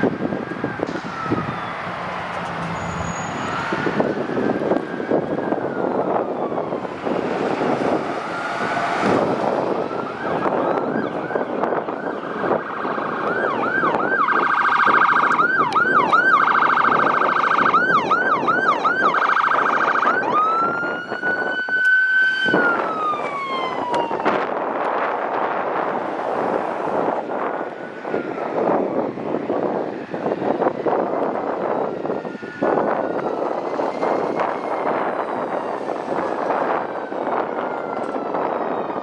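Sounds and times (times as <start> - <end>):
diesel engine: 0.0 - 17.2, 20.1 - 37.6
emergency vehicle sirens: 0.0 - 39.0
road noise: 0.0 - 39.0.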